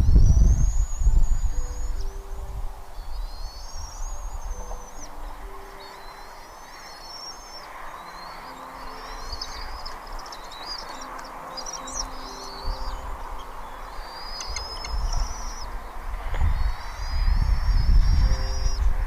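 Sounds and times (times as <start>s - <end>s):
steady outdoor hiss: 0.0s - 19.0s
birds squealing chirps: 3.0s - 19.0s.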